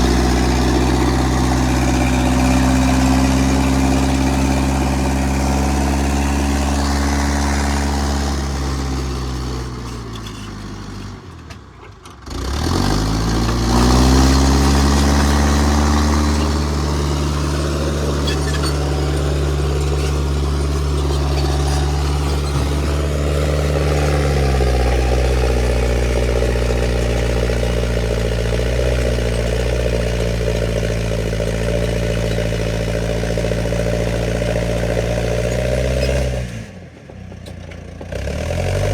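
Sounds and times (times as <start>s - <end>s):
loader engine running under load: 0.0s - 38.9s.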